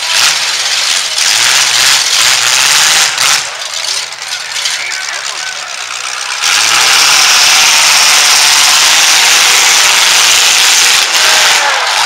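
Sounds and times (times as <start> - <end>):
truck engines at full throttle: 0.0 - 12.0.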